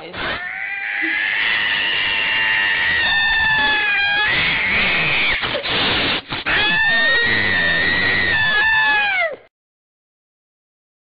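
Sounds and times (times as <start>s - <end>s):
cat yowling angrily: 0.1s - 9.5s.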